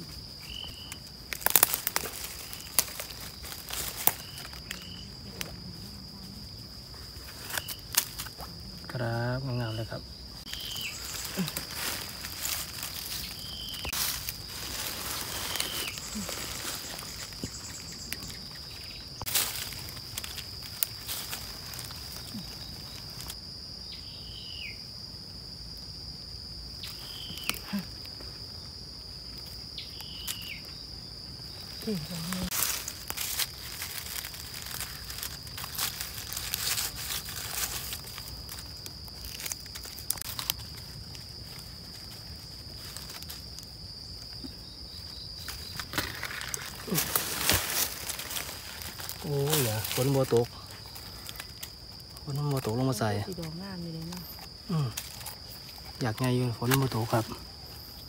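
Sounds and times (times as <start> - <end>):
crackling in dry leaf litter: 0.0 - 23.4, 26.8 - 28.3, 29.2 - 30.8, 31.4 - 58.0
high insect drone: 0.0 - 58.0.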